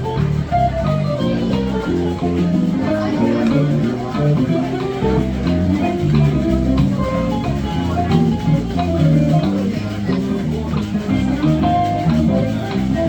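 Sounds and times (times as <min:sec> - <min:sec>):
bass line: 0:00.0 - 0:13.0
guitar chords and melody: 0:00.0 - 0:13.0.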